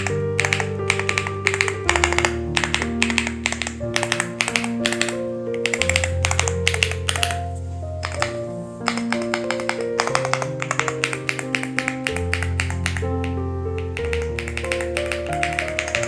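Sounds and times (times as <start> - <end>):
mechanical keyboard key clicks: 0.0 - 7.4, 8.0 - 16.0.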